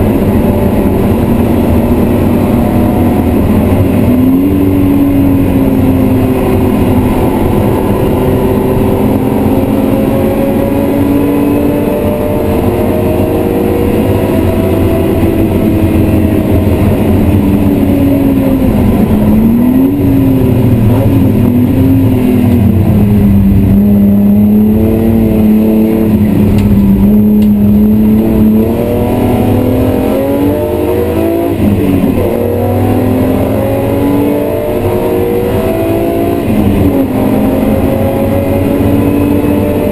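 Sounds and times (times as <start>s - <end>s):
car engine revving from inside: 0.0s - 39.9s.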